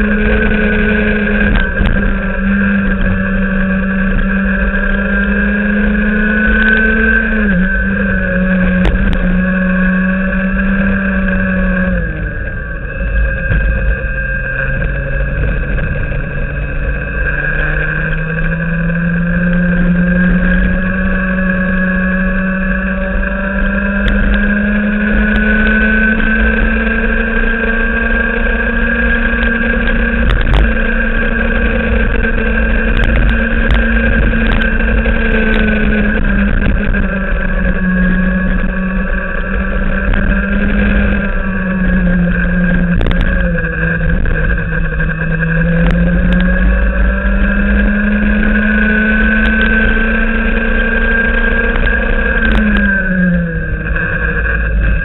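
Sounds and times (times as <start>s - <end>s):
kart engine at high revs: 0.0s - 55.0s.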